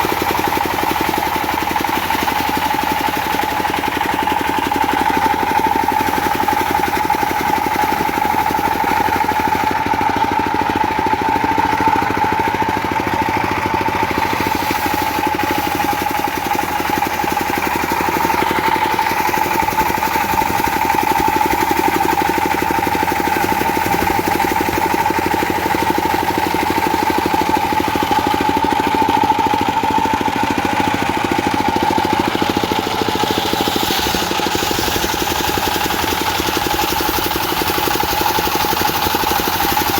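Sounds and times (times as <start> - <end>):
diesel engine running: 0.0 - 39.9
whine of spinning saw: 0.0 - 39.9.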